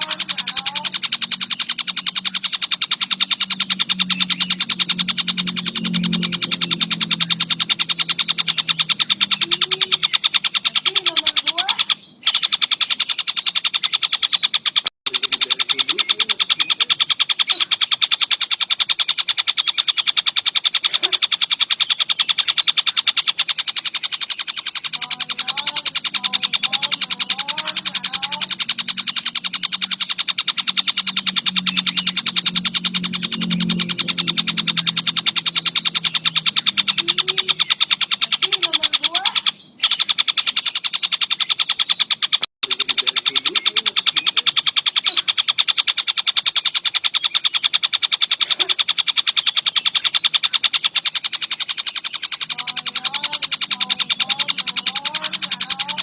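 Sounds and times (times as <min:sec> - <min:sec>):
faint low bird chirps: 0:00.0 - 0:56.0
kingfisher chattering trill: 0:00.0 - 0:56.0.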